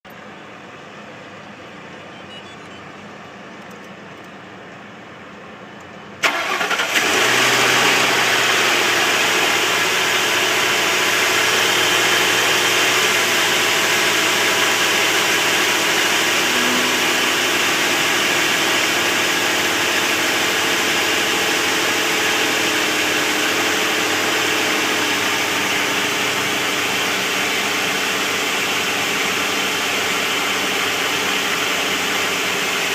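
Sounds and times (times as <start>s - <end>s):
car engine starting and idling: 0.1s - 32.9s.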